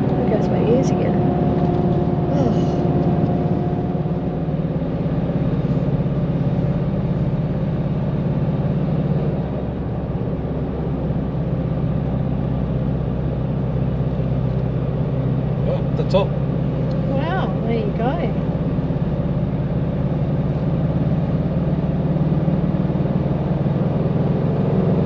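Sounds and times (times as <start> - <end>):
engine heard from inside cab: 0.0 - 25.0.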